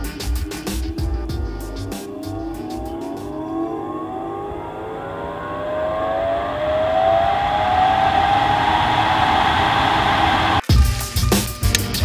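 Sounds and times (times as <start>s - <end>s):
blower motor whine rising: 0.0s - 11.3s
rush of air: 0.2s - 10.6s.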